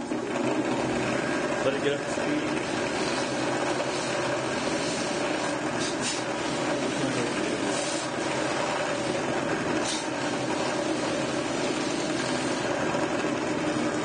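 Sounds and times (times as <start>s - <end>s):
sanding mop whirring: 0.0s - 14.0s.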